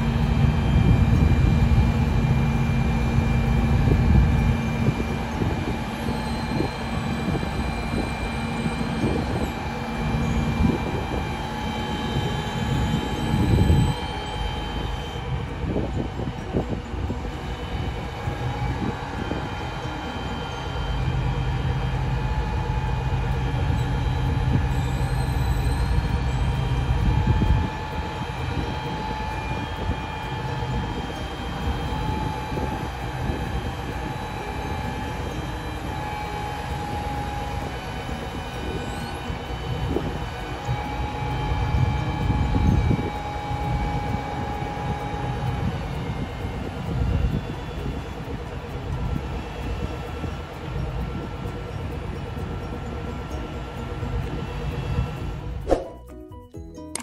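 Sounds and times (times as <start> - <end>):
crane diesel engine rumble: 0.0 - 57.0
high steady whine: 0.0 - 57.0.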